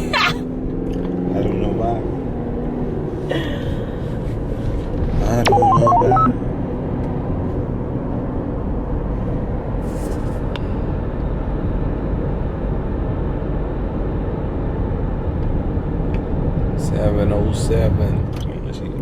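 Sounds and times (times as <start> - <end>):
car road and engine rumble: 0.0 - 5.4, 6.5 - 19.0.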